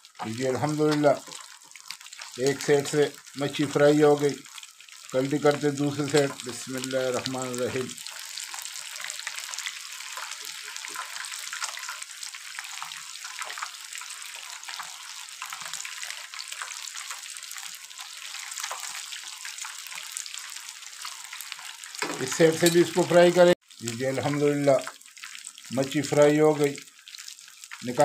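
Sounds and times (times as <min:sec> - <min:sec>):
fish deep-frying in oil: 0:00.0 - 0:28.0.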